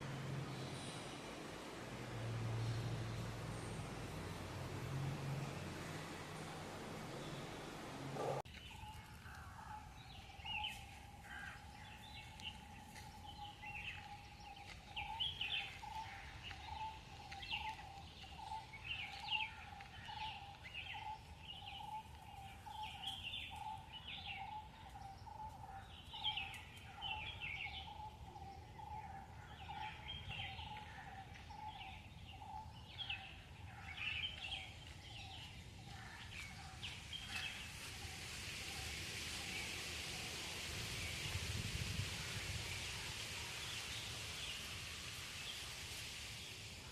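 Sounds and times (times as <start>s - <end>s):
birds chirping: 0.0s - 38.1s.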